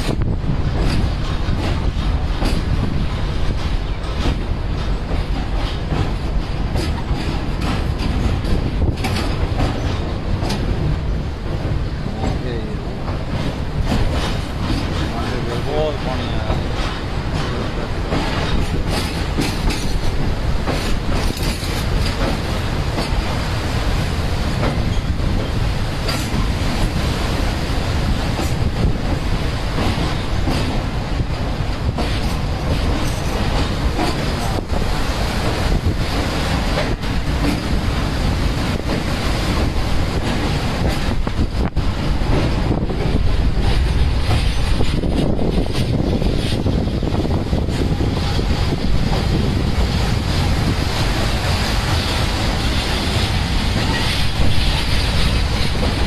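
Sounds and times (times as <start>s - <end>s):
train rumbling: 0.0s - 56.0s
wheels clicking on rails: 0.0s - 56.0s.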